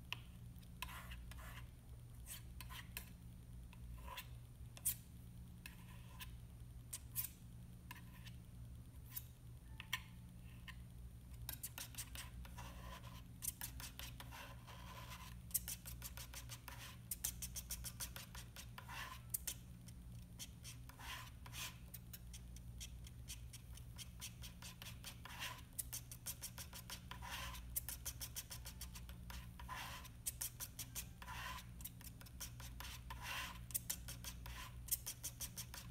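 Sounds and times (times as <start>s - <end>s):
palette knife scraping paint: 0.8s - 1.7s, 3.9s - 5.0s, 5.6s - 8.4s, 11.5s - 35.9s.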